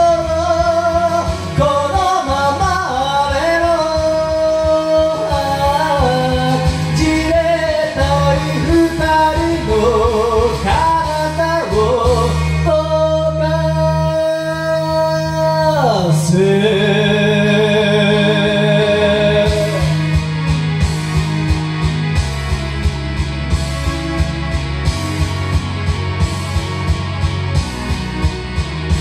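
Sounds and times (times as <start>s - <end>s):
karaoke backing track: 0.0s - 29.0s
person singing karaoke: 0.0s - 29.0s.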